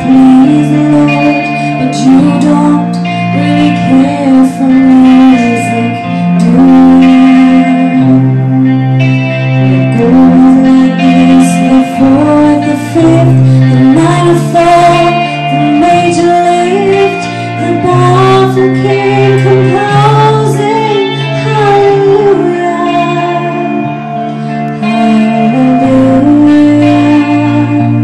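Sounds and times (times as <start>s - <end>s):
guitar-led accompaniment with bass: 0.0s - 28.0s
woman singing into microphone: 0.0s - 28.0s.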